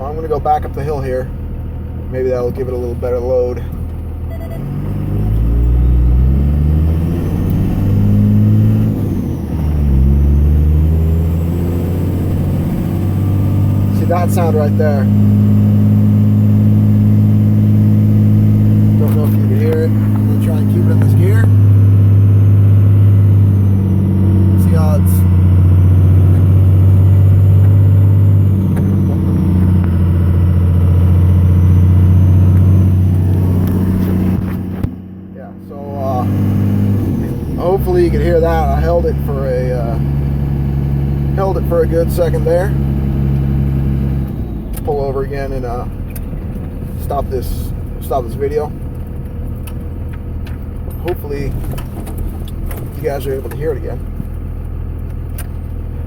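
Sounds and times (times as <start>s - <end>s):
diesel engine pulling under load: 0.0s - 56.0s.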